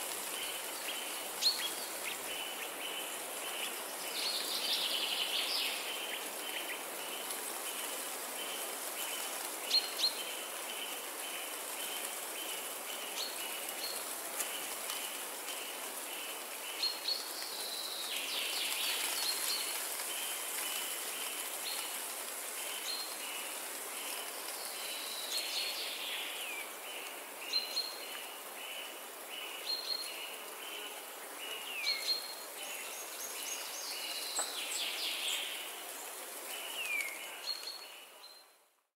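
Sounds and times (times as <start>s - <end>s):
wind through leaves: 0.0s - 38.9s.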